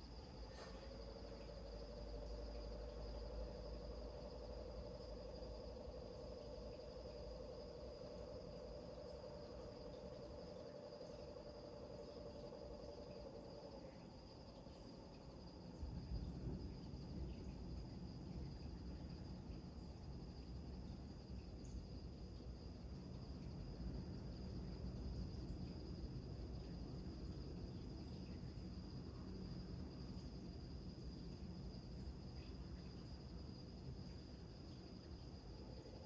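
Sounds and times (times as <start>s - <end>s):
crickets chirring: 0.0s - 36.0s.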